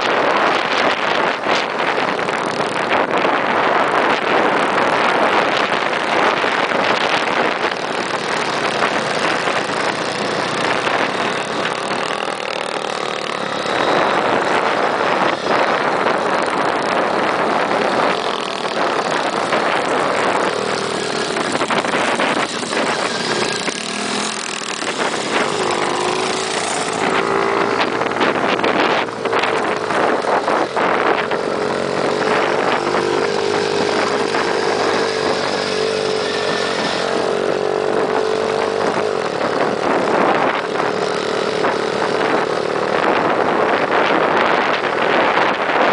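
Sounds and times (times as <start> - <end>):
small engine running: 2.2 - 45.9.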